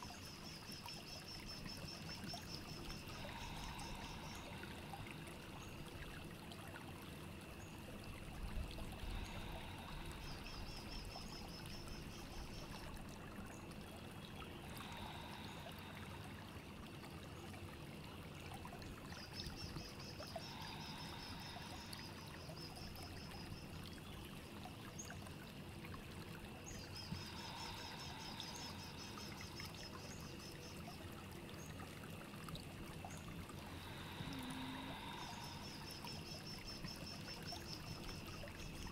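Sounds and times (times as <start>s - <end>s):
trickling running water: 0.0s - 38.9s.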